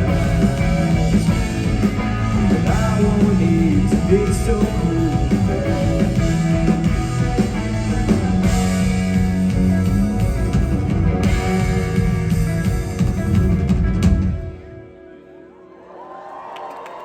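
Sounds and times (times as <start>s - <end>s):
drums: 0.0s - 15.0s
live rock band playing: 0.0s - 15.1s
guitar: 0.0s - 15.8s.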